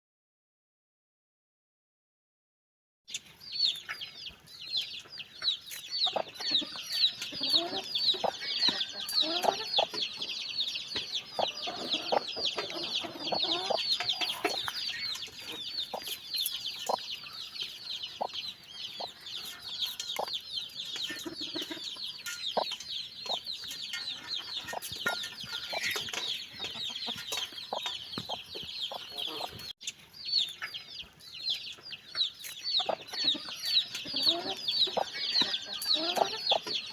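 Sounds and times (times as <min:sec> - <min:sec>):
baby chicks peeping: 0:03.1 - 0:36.9.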